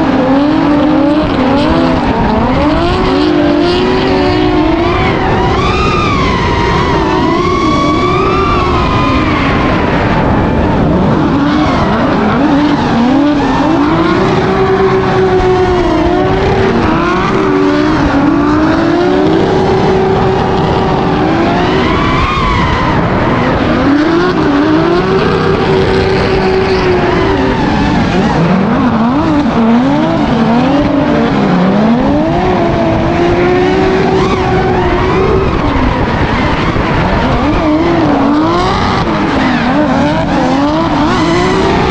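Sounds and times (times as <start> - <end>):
car engines revving: 0.0 - 41.9.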